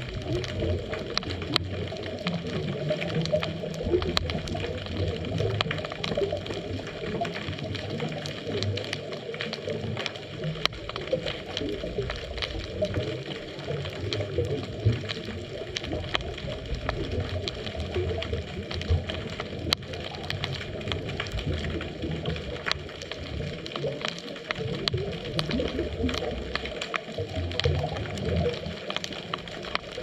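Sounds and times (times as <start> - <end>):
sharp underwater clicks: 0.0 - 30.0
underwater rumble of moving water: 0.0 - 30.0.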